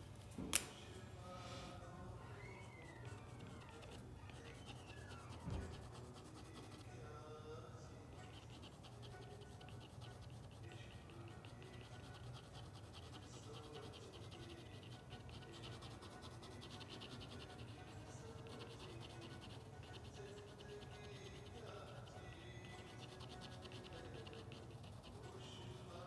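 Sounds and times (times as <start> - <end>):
pen scratching on paper: 2.4 - 6.9, 8.2 - 26.0.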